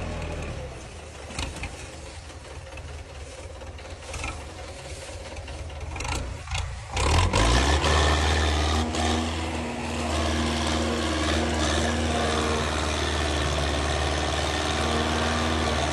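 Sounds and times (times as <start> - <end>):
diesel tractor engine starting: 0.0 - 15.9.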